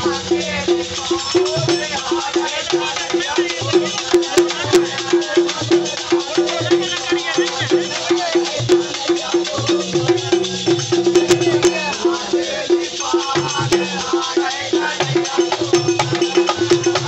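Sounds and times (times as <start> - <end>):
hand drums beating: 0.0 - 17.0
men singing a folk song: 0.0 - 17.0.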